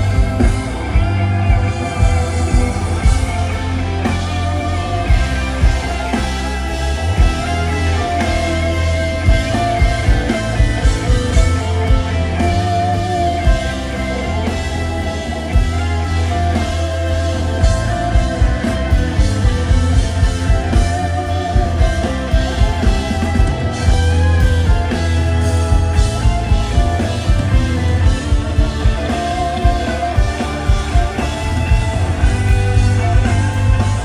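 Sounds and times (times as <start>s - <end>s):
bass guitar: 0.0s - 34.0s
drum kit beat: 0.0s - 34.0s
electric guitars: 0.0s - 34.0s.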